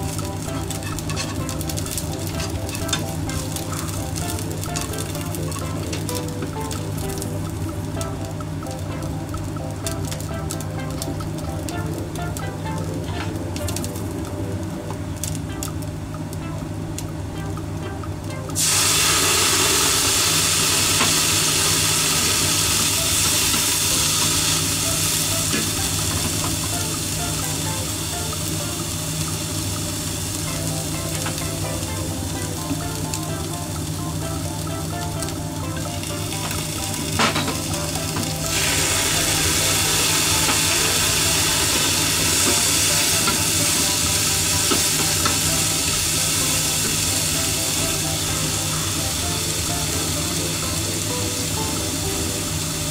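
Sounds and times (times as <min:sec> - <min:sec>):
food sizzling in frying pan: 0:00.0 - 0:52.9.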